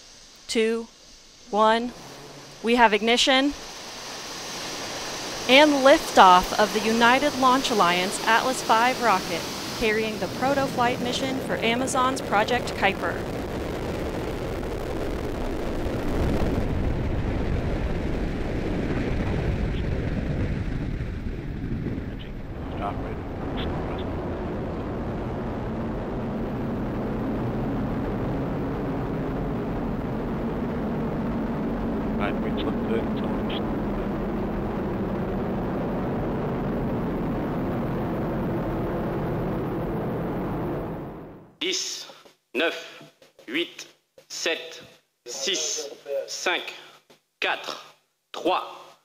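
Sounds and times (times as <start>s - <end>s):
rocket engine roar: 0.0s - 41.6s.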